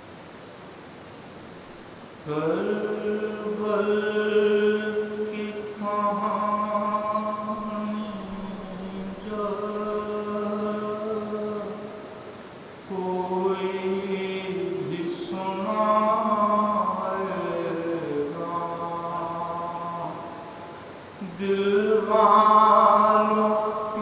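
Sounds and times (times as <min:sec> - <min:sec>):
man chanting: 0:02.3 - 0:12.1, 0:12.9 - 0:24.0.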